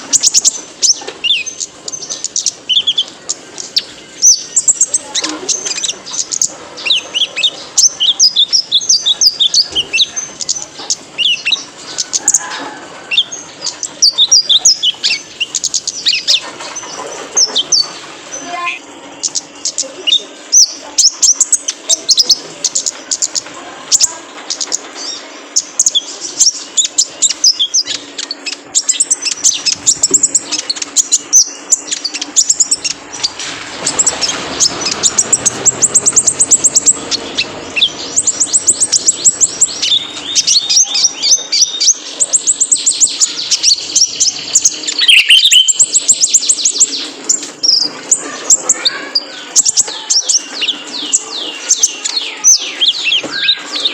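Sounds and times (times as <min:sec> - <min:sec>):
sunbird chirping song: 0:00.0 - 0:53.9.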